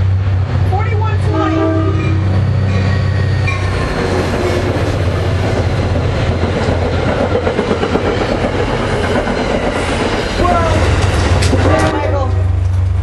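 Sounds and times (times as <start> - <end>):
diesel train engine drone: 0.0 - 13.0
train wheels rattling on track: 0.0 - 13.0.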